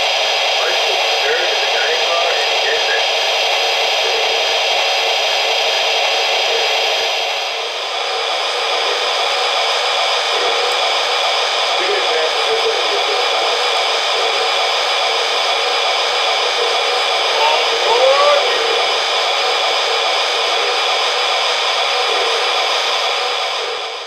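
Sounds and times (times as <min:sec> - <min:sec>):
model train turbine hissing whine: 0:00.0 - 0:24.0.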